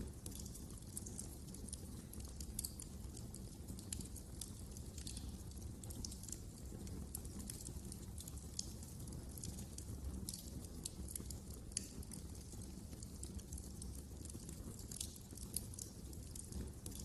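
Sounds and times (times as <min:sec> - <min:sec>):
fire crackling and popping: 0:00.0 - 0:17.0
low rumble of burning fire: 0:00.0 - 0:17.0.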